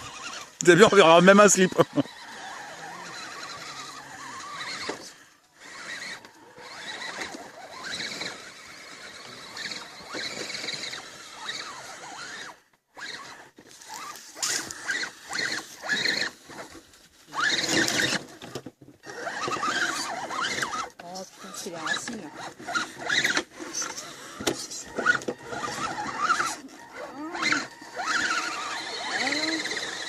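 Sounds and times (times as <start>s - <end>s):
electric motor and gearbox whining: 0.0s - 30.0s.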